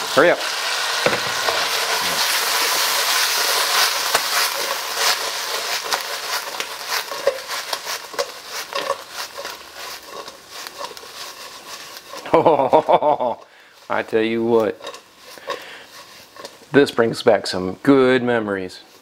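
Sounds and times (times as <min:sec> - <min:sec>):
food sizzling in a frying pan: 0:00.0 - 0:17.8
crackles and pops: 0:01.0 - 0:16.9.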